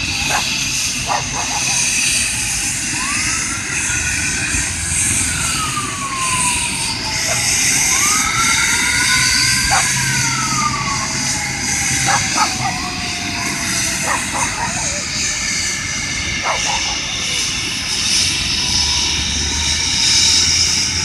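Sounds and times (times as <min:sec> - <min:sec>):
emergency vehicle siren wailing: 0:00.0 - 0:21.0
steady background noise: 0:00.0 - 0:21.0.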